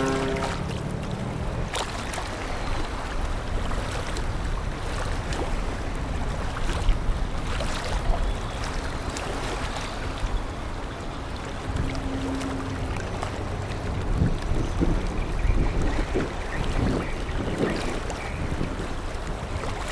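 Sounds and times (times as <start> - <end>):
sea waves washing: 0.0 - 19.9
wind buffeting microphone: 0.0 - 19.9.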